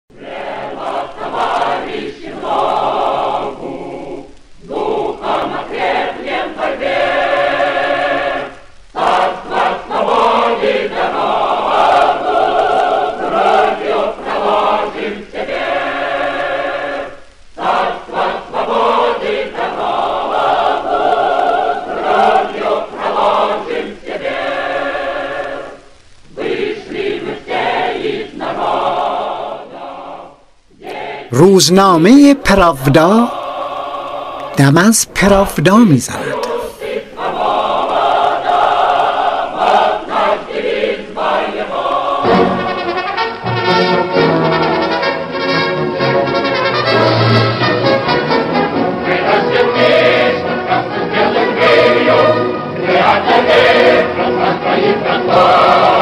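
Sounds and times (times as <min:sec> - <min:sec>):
choir singing: 0:00.1 - 0:56.0.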